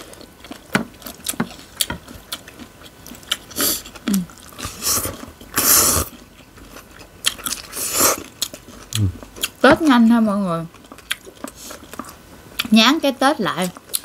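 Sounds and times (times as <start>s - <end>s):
chewing: 0.0s - 9.6s, 10.7s - 12.7s, 13.6s - 14.0s.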